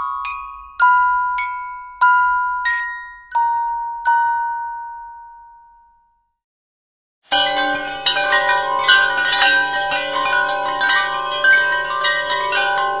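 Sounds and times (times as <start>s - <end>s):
wind chime tones ringing: 0.0s - 6.2s, 7.3s - 13.0s.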